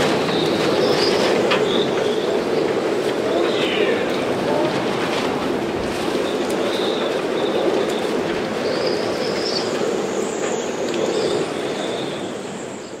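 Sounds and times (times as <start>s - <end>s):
storm wind with rain: 0.0s - 13.0s
rigging whistling: 0.2s - 12.7s.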